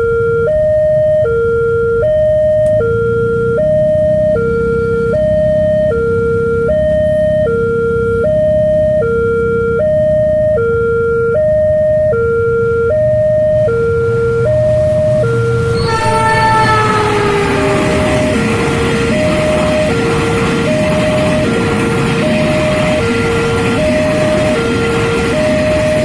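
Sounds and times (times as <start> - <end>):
two-tone railroad crossing siren: 0.0 - 26.0.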